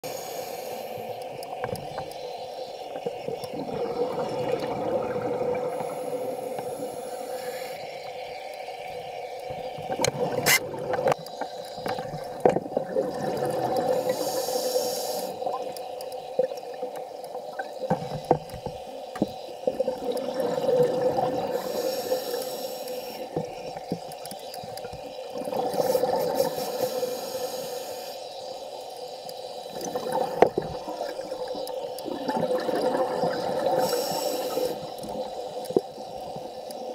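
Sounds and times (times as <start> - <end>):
underwater rushing water: 0.0 - 36.9.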